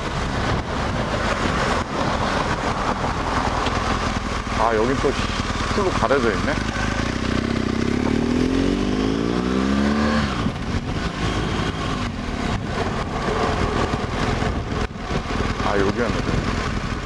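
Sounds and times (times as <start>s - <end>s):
motorcycle engine accelerating: 0.0s - 17.0s
rushing wind noise: 0.0s - 17.0s.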